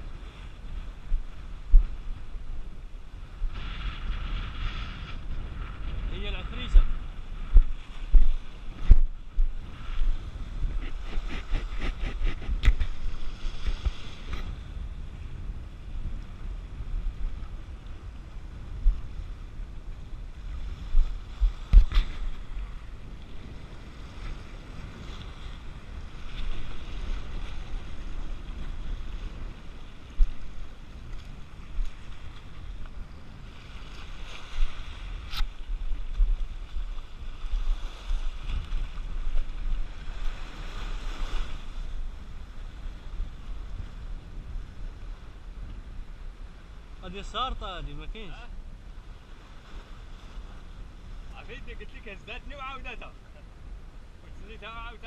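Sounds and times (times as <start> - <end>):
wind buffeting microphone: 0.0 - 54.7.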